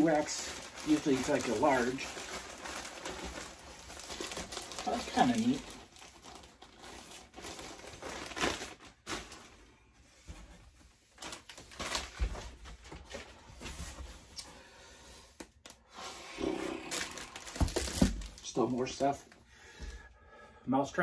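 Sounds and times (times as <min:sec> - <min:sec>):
plastic bag rustling: 0:00.0 - 0:14.3, 0:16.0 - 0:19.9.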